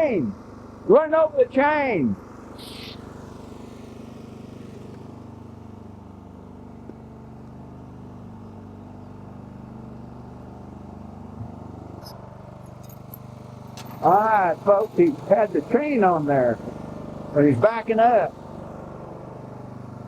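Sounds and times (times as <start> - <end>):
riding lawn mower engine running: 0.0 - 20.0.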